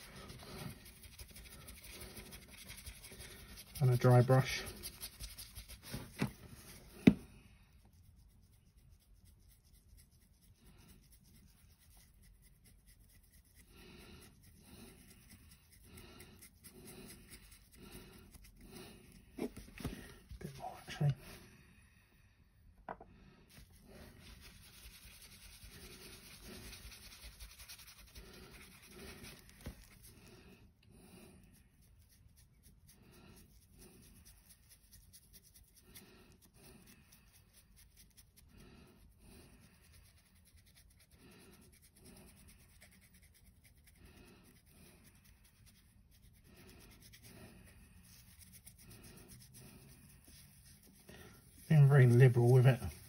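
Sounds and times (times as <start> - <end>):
dry brush scratching: 0.0 - 21.5, 23.5 - 30.3, 31.4 - 53.0.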